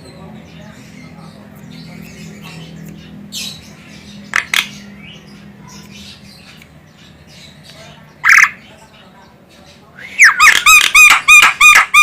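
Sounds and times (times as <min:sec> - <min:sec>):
myna bird calling: 0:00.0 - 0:12.0.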